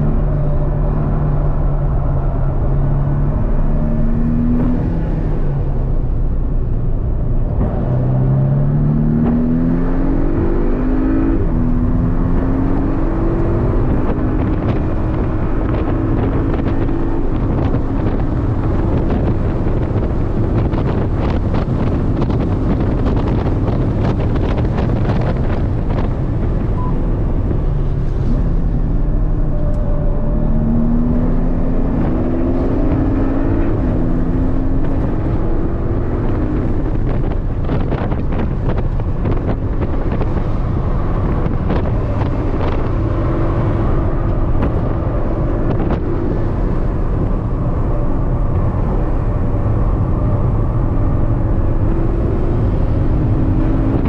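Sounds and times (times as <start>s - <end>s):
car engine accelerating: 0.0s - 54.0s
road and wind rumble: 0.0s - 54.0s.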